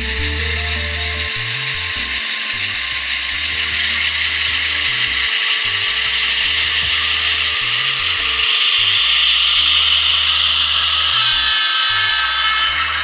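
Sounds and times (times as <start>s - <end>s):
background music with bass line: 0.0s - 10.8s
model locomotive motors whining: 0.0s - 13.0s.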